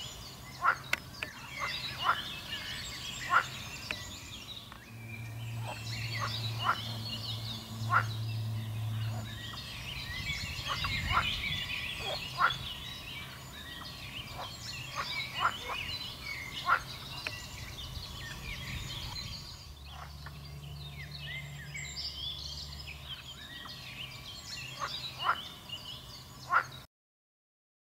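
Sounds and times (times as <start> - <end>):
frogs chirping and trilling: 0.0 - 26.8
low steady hum: 0.0 - 26.8
birdsong: 0.0 - 26.9.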